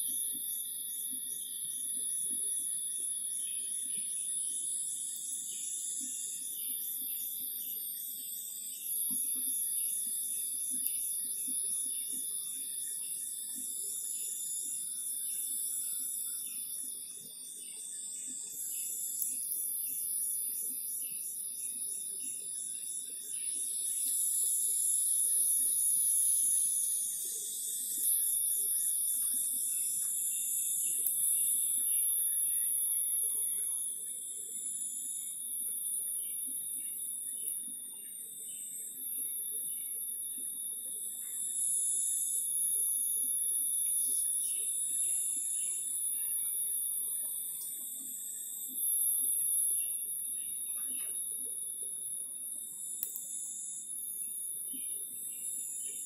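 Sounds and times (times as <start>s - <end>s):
insects buzzing in pulses: 0.0s - 56.0s.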